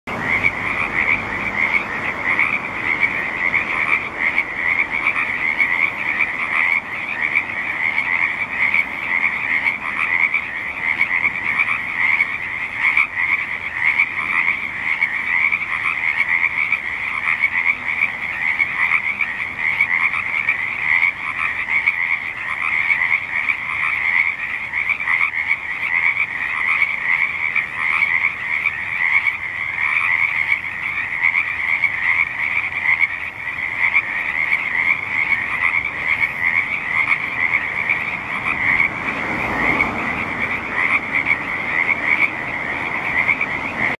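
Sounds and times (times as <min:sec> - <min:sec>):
frogs croaking chorus: 0:00.1 - 0:44.0.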